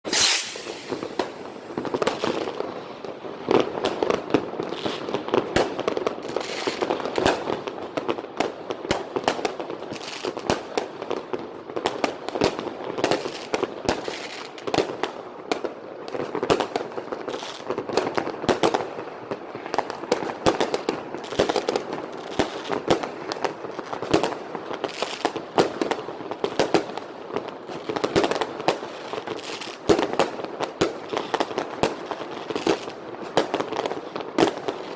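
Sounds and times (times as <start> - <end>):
firework crackle: 0.0 - 34.9
fireworks bangs and pops: 0.0 - 34.9.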